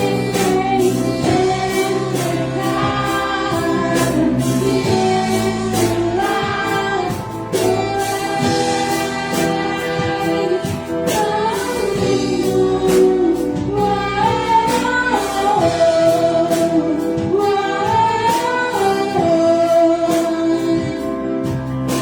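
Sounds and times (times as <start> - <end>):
voices singing slow melody: 0.0 - 22.0.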